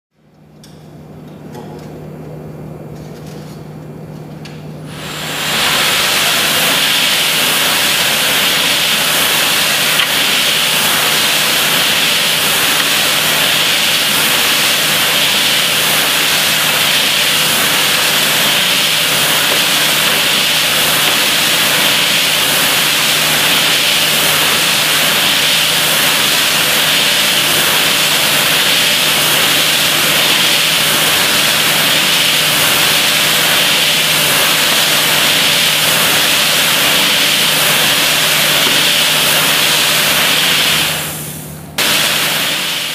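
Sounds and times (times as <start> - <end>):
mixer motor hum: 4.9 - 41.2
granules tumbling hiss: 4.9 - 42.9.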